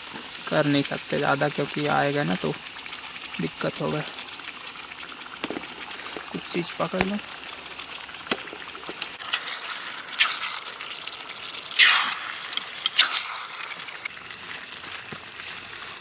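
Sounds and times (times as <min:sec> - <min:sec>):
crickets trilling: 0:00.0 - 0:16.0
food sizzling in a pan: 0:00.0 - 0:16.0.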